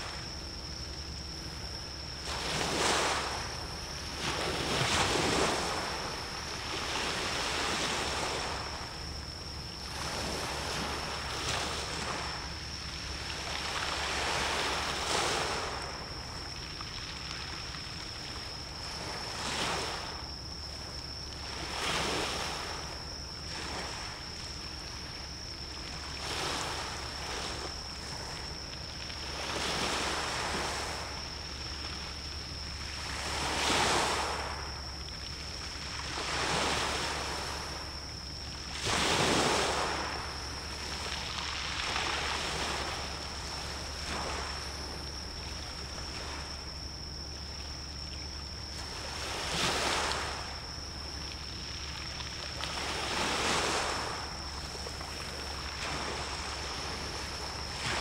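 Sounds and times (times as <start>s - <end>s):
small waves washing in: 0.0s - 58.0s.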